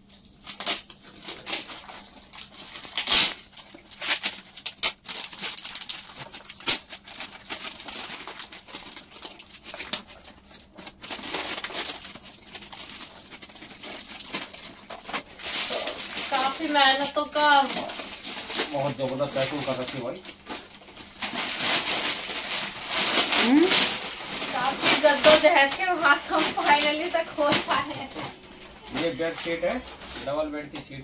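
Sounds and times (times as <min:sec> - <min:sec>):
packaging being torn open: 0:00.1 - 0:29.8.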